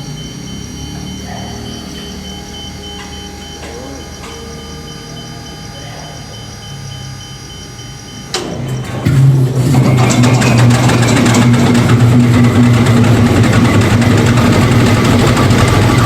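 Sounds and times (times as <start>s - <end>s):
diesel engine running drone: 0.0s - 16.0s
locomotive engine cranking: 0.0s - 16.0s
low hum with whining tones: 0.0s - 16.0s.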